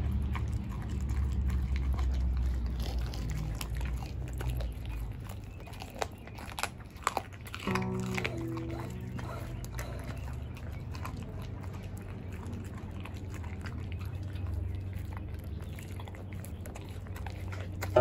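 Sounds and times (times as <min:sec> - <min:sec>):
bone crunching and cracking: 0:00.0 - 0:18.0
dog chewing bone: 0:00.0 - 0:18.0.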